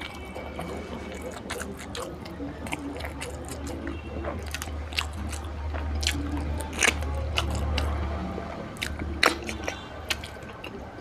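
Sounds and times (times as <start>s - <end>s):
chewing and biting: 0.0s - 11.0s.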